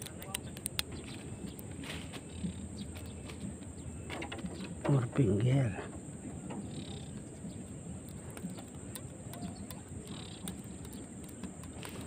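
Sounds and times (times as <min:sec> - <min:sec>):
faint bird calls: 0:00.1 - 0:12.0
high insect drone: 0:01.0 - 0:12.0.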